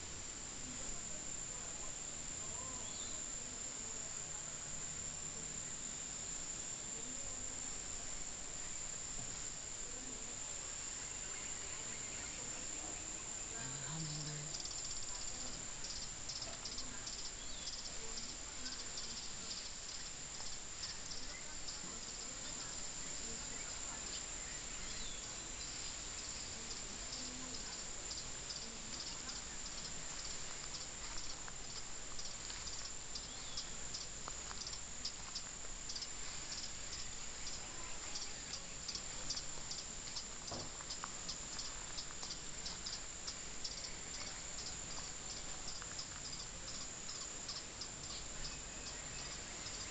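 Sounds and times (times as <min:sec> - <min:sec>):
crickets chirping: 0:00.0 - 0:49.9
steady high-pitched whine: 0:00.0 - 0:49.9
high-pitched insect drone: 0:09.8 - 0:49.9.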